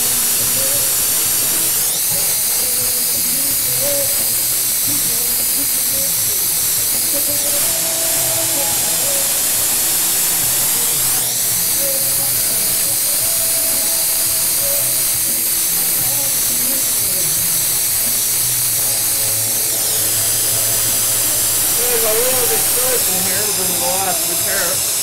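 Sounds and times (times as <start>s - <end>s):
faint music: 0.0s - 25.0s
torch flame hissing: 0.0s - 25.0s.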